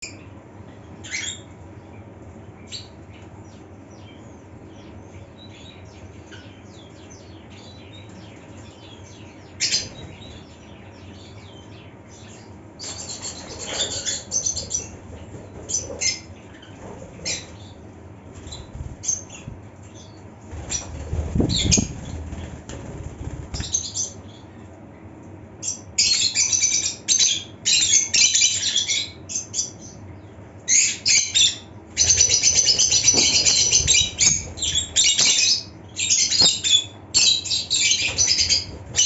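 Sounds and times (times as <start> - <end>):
lovebirds chirping: 0.0 - 22.6, 25.6 - 39.0
steady low hum: 0.0 - 39.0.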